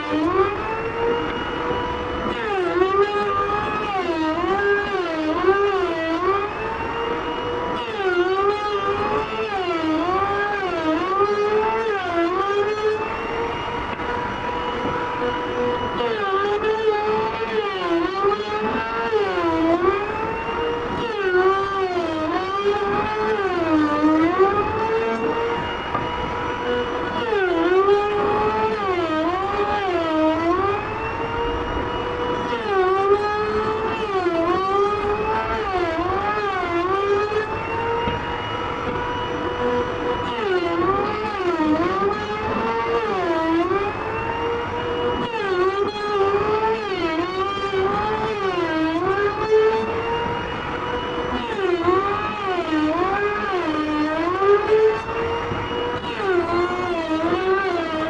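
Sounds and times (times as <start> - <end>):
wood router whining: 0.0 - 58.0.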